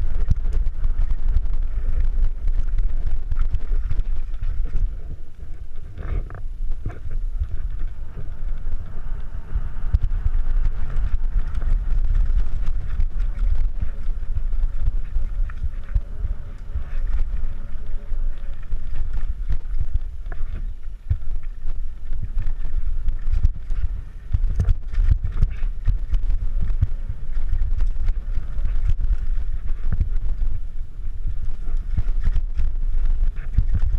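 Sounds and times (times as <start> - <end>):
bike rattling over bumps: 0.0 - 33.9
wind rumble on microphone: 0.0 - 33.9.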